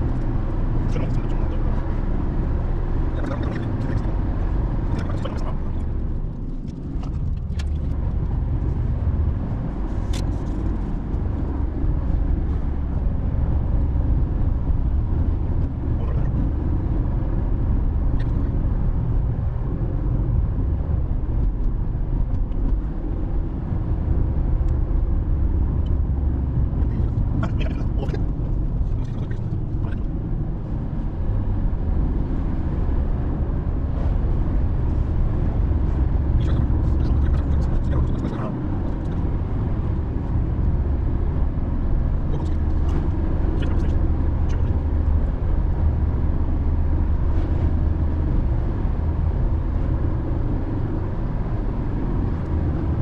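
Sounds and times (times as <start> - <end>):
car driving on road: 0.0 - 53.0.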